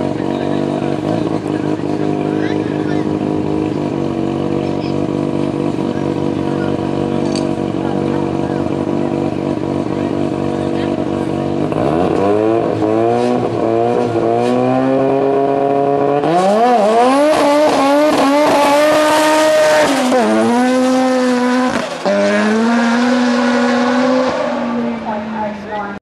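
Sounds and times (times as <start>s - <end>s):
rotary engine revving and accelerating: 0.0s - 26.0s.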